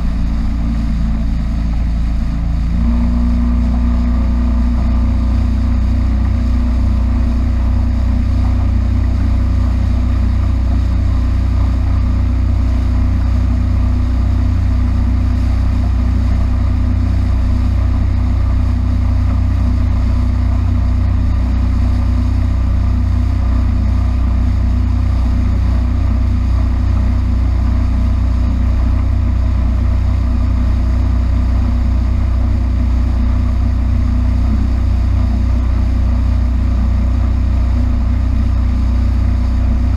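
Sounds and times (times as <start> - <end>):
powerboat engine running: 0.0 - 39.9.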